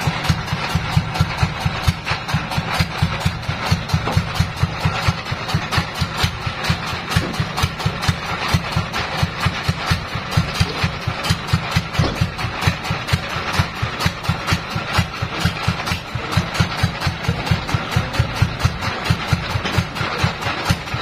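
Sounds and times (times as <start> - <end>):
sawmill engine idling: 0.0 - 21.0.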